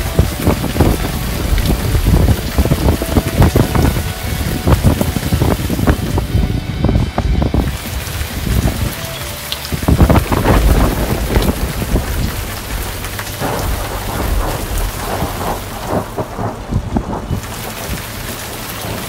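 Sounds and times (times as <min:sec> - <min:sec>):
low rumbling thunder: 0:00.0 - 0:09.0, 0:09.7 - 0:19.0
rain falling: 0:00.0 - 0:19.0.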